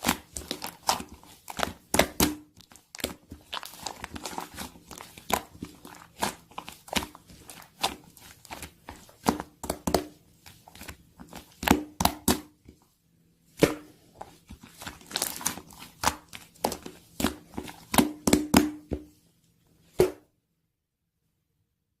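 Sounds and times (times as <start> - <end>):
slime squished by hand: 0.0 - 12.6, 13.5 - 18.9.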